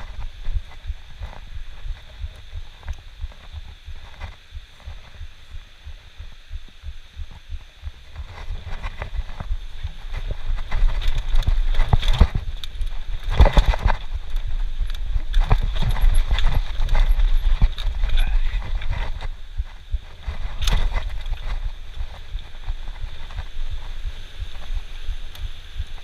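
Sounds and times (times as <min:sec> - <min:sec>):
mountain bike rattling over rocks: 0:00.0 - 0:05.2, 0:08.1 - 0:26.0.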